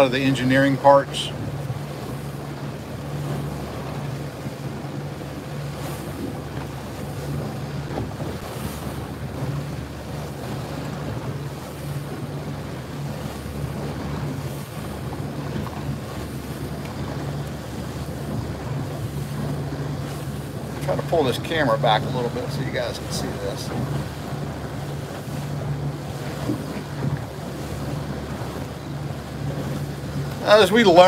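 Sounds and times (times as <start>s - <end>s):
boat motor humming: 0.0s - 31.0s
water washing past hull: 0.0s - 31.0s
wind buffeting microphone: 0.0s - 31.0s.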